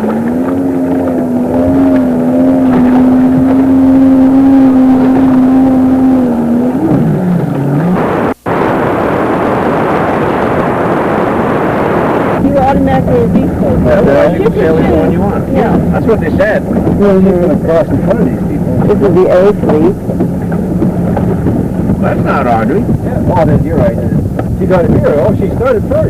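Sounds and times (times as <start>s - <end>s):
jet ski engine revving: 0.0s - 26.0s
steady rushing noise: 0.0s - 26.0s.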